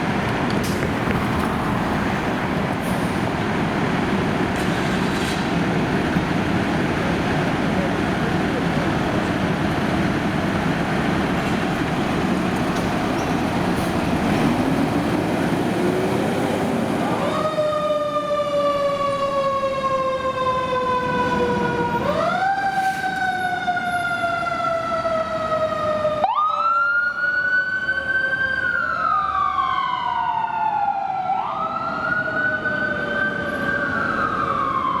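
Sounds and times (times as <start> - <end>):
emergency sirens wailing: 0.0 - 35.0
heavy vehicle and road noise: 0.0 - 35.0.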